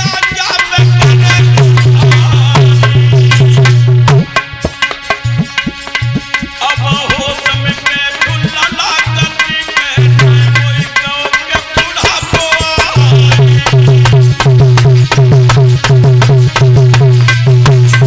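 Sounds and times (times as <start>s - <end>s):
sustained melodic tones: 0.0s - 18.0s
tabla drumming: 0.0s - 18.0s.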